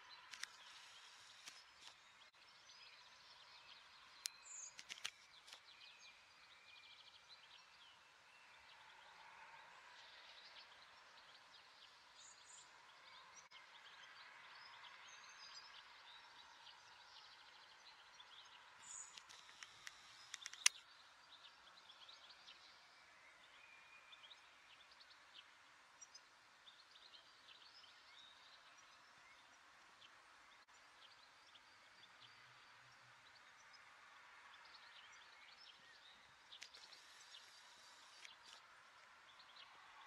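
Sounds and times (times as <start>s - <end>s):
faint outdoor ambience: 0.0s - 40.0s.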